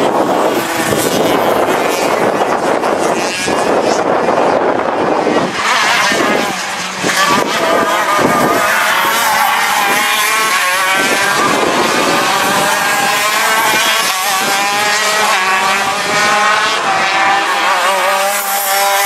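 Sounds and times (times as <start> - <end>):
racing kart two-stroke engines: 0.0 - 19.0.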